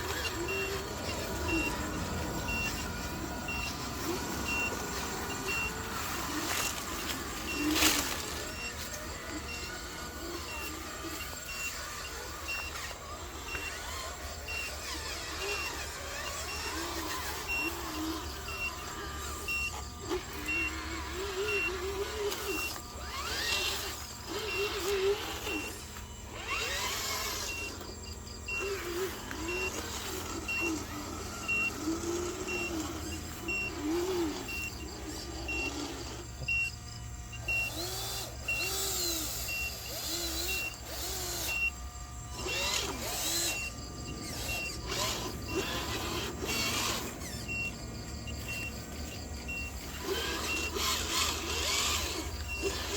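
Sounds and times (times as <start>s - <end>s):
reversing alarm beeps: 0.0s - 52.9s
toy truck motor revving: 0.0s - 52.9s.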